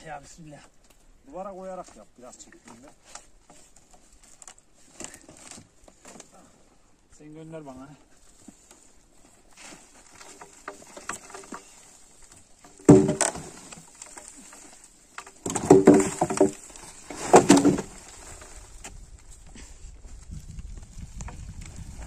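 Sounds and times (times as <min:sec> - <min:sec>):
wooden timbers creaking and scraping: 0:00.0 - 0:06.9, 0:08.0 - 0:22.0.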